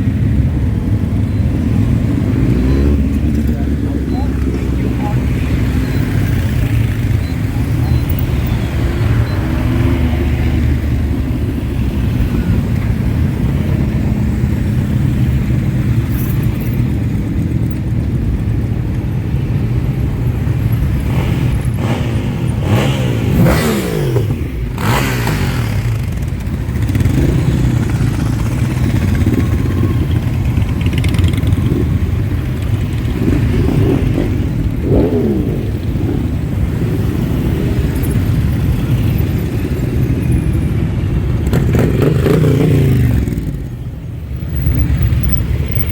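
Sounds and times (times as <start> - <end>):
motorcycles revving past: 0.0 - 16.1, 20.4 - 45.9
motorcycle engines rumbling: 0.0 - 45.9.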